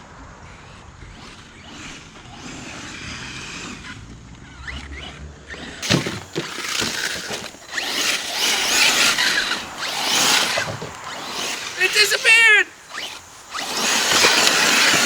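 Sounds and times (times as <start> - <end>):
radio-controlled trucks driving: 0.0 - 15.0.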